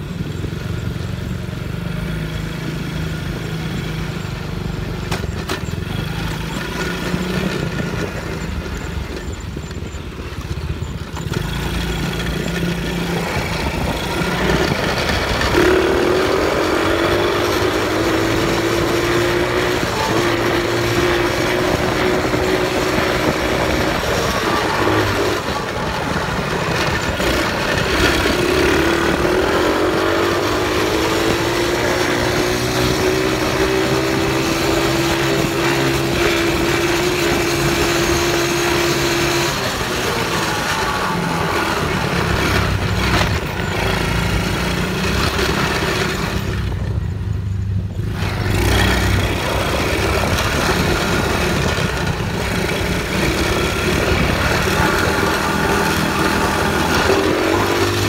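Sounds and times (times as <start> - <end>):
atv engine idling and revving: 0.0 - 58.0.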